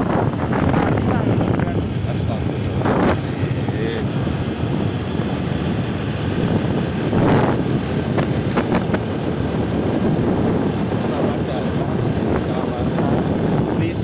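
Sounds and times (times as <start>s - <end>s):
vehicle running along a road: 0.0s - 14.0s
wind buffeting the microphone: 0.0s - 14.0s.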